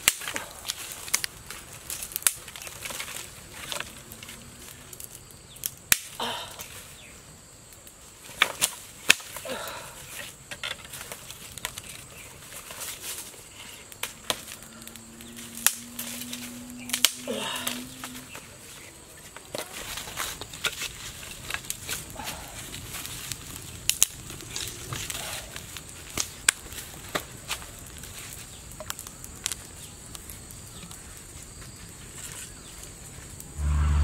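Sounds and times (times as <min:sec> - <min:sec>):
rustling in dry leaves: 0:00.0 - 0:05.5, 0:06.2 - 0:34.0
dry wood cracking and snapping: 0:00.0 - 0:06.9, 0:07.8 - 0:31.2.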